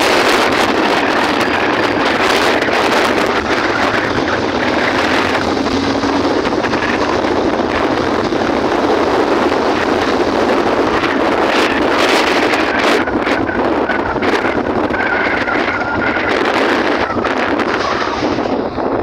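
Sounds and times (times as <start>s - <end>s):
vehicle running noise: 0.0s - 19.0s
wind rushing on microphone: 0.0s - 19.0s.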